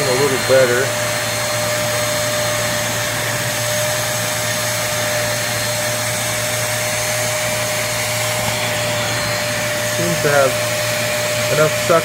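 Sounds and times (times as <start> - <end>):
carpet cleaner suction motor: 0.0 - 12.0.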